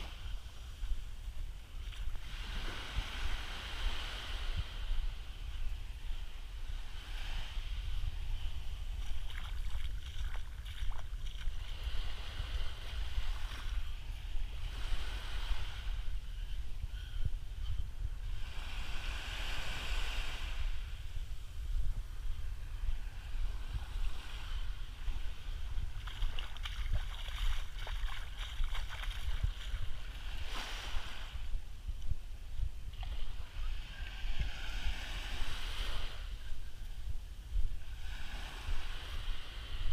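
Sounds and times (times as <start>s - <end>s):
small waves washing onto sand: 0.0s - 31.7s, 32.3s - 37.1s, 37.7s - 39.9s
wind rumble on microphone: 0.0s - 39.9s.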